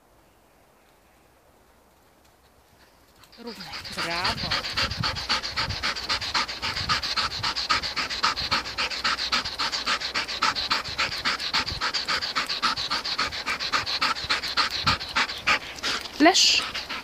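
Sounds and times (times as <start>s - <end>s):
dog panting rapidly: 3.1s - 17.0s.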